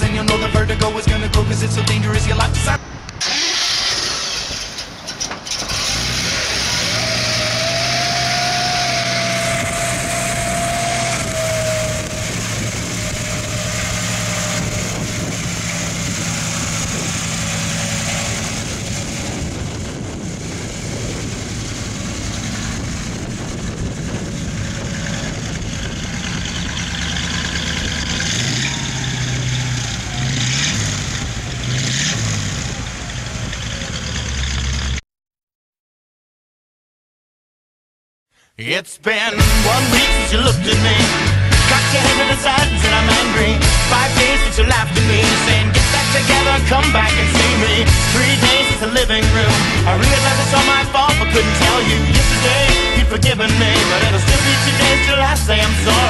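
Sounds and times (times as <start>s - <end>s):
car engine idling and revving: 0.0s - 35.0s, 39.4s - 56.0s.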